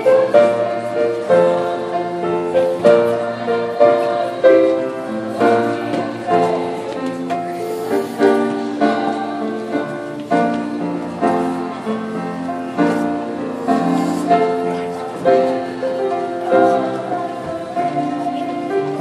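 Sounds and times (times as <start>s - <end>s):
grand piano chords: 0.0s - 19.0s
group of people singing: 0.0s - 19.0s.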